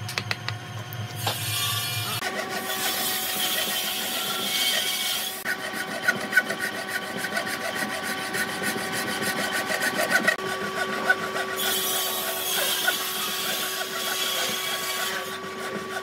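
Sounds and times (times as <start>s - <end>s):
hand saw rasping through wood: 2.2s - 16.0s.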